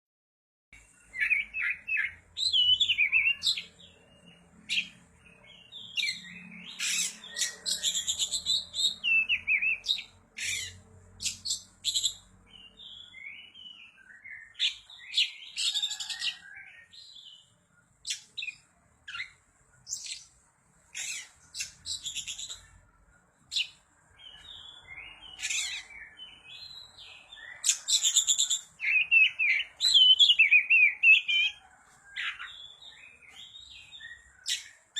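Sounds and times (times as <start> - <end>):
bird singing whistles and chirps: 1.0 - 20.3, 23.5 - 34.9.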